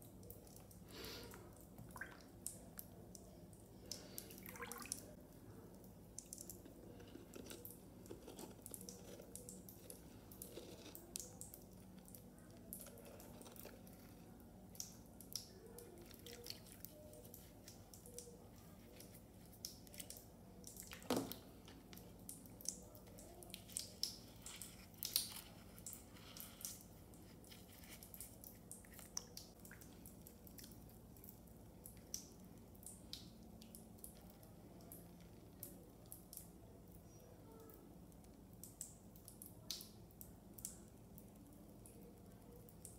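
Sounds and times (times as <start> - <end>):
low steady hum: 0.0 - 42.9
water drips and wet squishes: 0.0 - 42.9.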